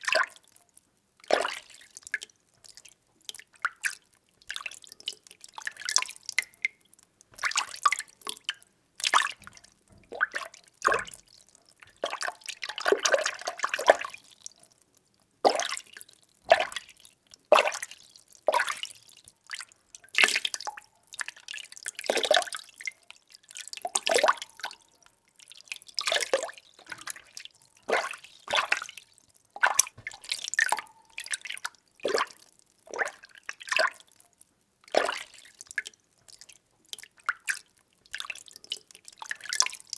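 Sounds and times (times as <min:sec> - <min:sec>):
water sloshing in a container: 0:01.2 - 0:14.7, 0:15.4 - 0:34.1, 0:34.9 - 0:39.9.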